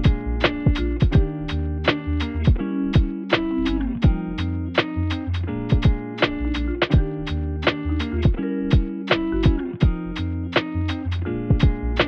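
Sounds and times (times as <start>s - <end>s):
bass: 0.0s - 12.0s
guitar over a steady beat: 0.0s - 12.0s.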